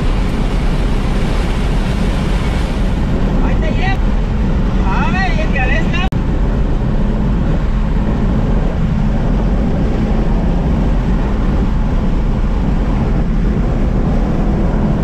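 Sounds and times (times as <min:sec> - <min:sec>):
car engine and road noise in cabin: 0:00.0 - 0:15.0.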